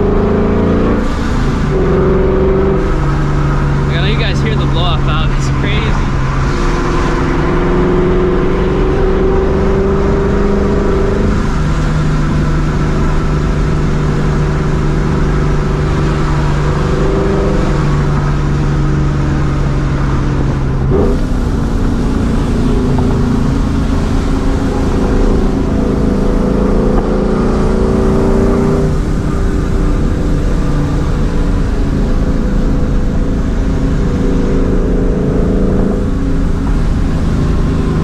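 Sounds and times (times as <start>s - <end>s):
car engine cruising: 0.0s - 38.0s.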